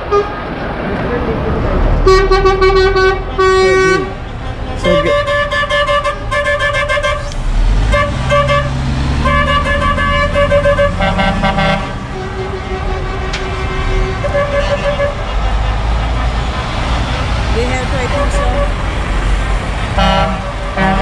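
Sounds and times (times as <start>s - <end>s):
truck horns blasting: 0.0s - 0.5s, 2.0s - 18.9s, 19.6s - 21.0s
truck engines rumbling: 0.0s - 21.0s.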